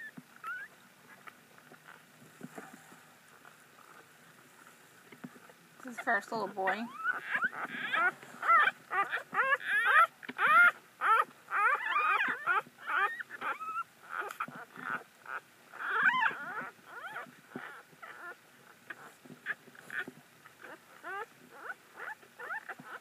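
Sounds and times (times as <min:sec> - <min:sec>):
newborn puppy squealing and whimpering: 0:00.0 - 0:02.0, 0:05.4 - 0:23.0.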